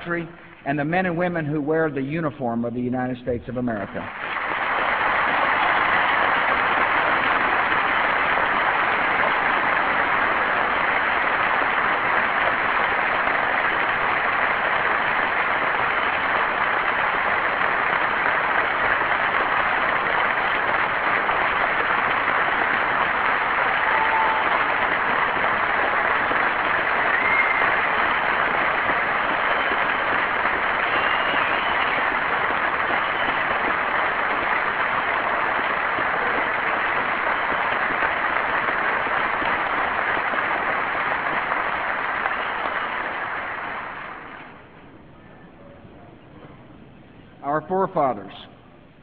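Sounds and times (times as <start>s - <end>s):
audience applauding: 3.8s - 44.7s.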